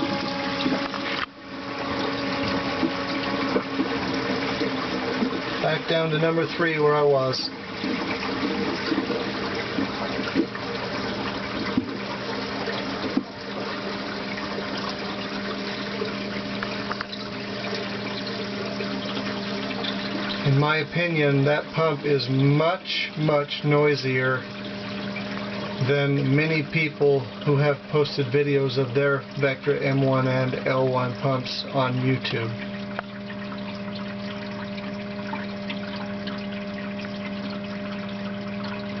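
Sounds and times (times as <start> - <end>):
aquarium pump humming: 0.0 - 39.0
water rushing: 0.0 - 39.0.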